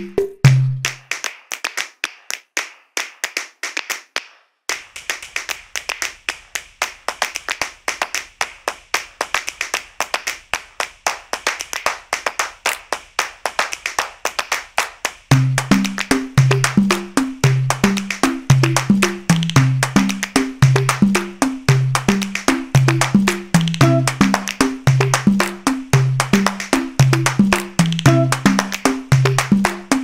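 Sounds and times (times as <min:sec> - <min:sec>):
rhythmic hand claps: 0:00.0 - 0:30.0.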